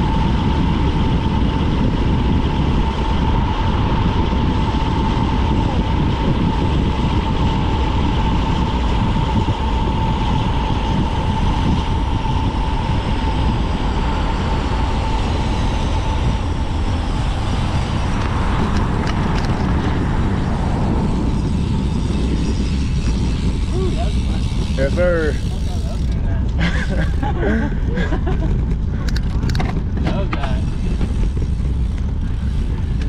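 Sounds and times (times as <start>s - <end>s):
steady high whine: 0.0s - 33.0s
tyre noise on asphalt: 0.0s - 33.0s
wind buffeting microphone: 0.0s - 33.0s.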